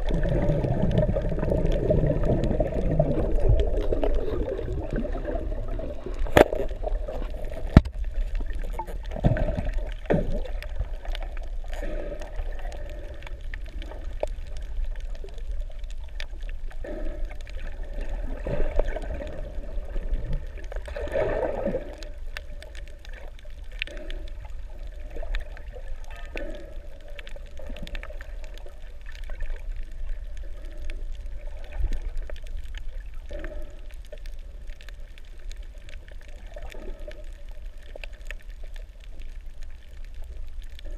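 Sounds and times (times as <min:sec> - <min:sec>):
low underwater rumble: 0:00.0 - 0:40.9
underwater sloshing and gurgling: 0:00.0 - 0:40.9.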